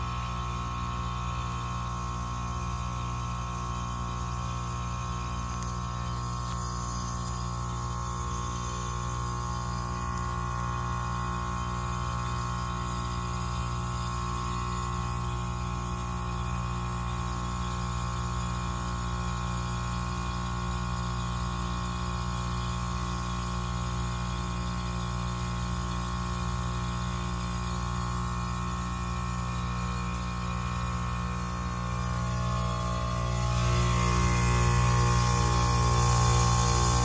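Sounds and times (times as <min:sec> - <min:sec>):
compressor humming: 0:00.0 - 0:37.0.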